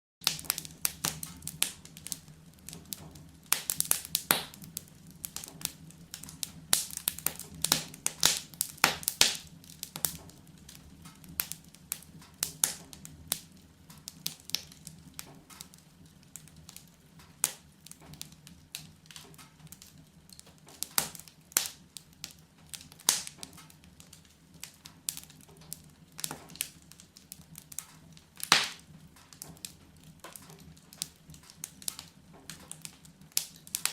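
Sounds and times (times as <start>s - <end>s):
wood fire crackling: 0.2s - 33.9s.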